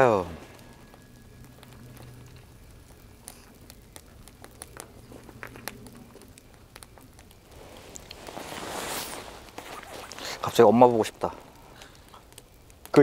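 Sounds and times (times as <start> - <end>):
campfire crackling and popping: 0.0 - 13.0
faint low hum: 0.0 - 13.0.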